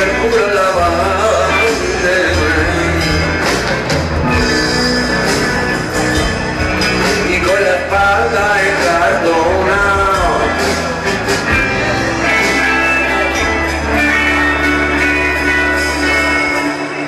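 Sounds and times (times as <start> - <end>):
guitar melody bending in pitch: 0.0 - 17.0
live rock band playing: 0.0 - 17.0.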